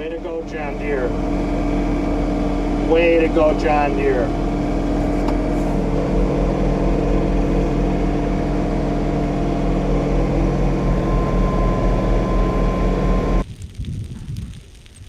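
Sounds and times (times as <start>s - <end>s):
machine hum with low rumble: 0.0s - 13.5s.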